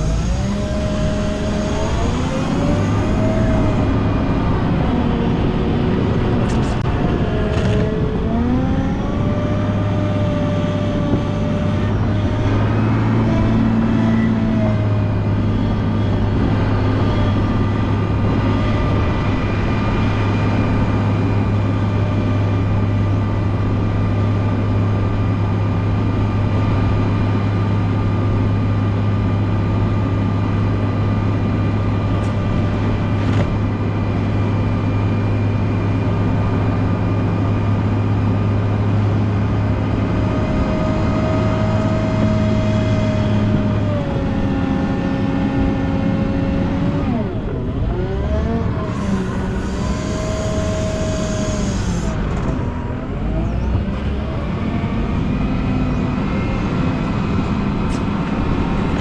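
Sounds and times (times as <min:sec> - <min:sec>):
diesel engine droning under load: 0:00.0 - 0:59.0.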